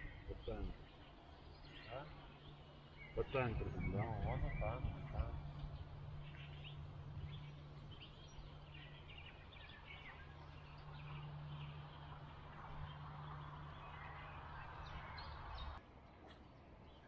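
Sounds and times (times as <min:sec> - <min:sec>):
steady low hum: 0:00.0 - 0:15.8
small birds chirping: 0:00.0 - 0:17.0.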